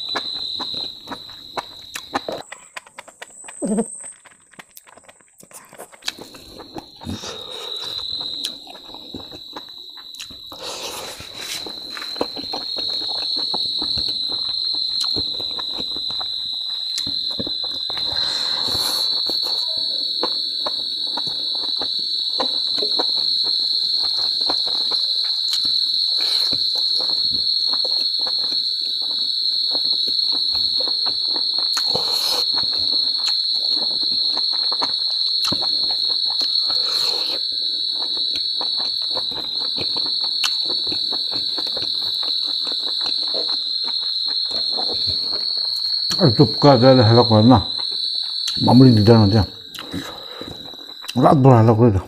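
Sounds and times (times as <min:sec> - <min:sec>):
person chewing food: 0:00.0 - 0:46.7, 0:47.7 - 0:48.8, 0:49.6 - 0:51.2
insects chirring: 0:00.0 - 0:52.0.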